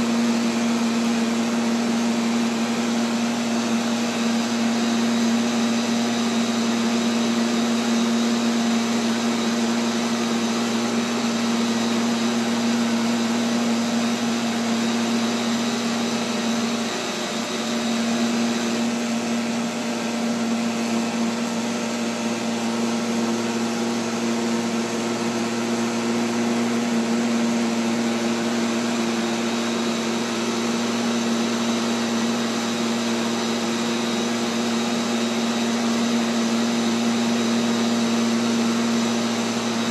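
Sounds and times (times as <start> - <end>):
robotic vacuum motor hum: 0.0 - 39.9.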